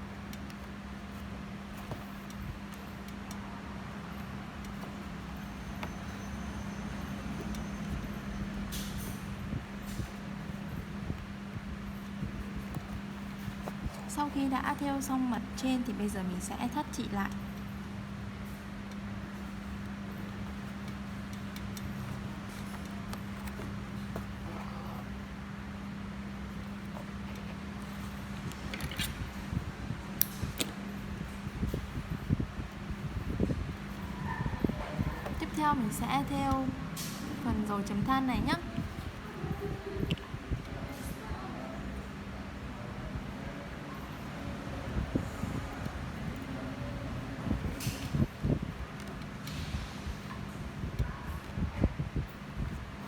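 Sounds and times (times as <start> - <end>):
low background hum: 0.0 - 53.0.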